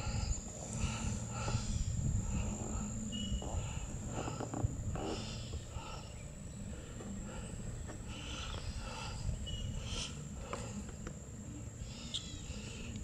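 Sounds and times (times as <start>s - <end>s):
low rumble: 0.0s - 10.9s
high insect drone: 0.0s - 13.0s.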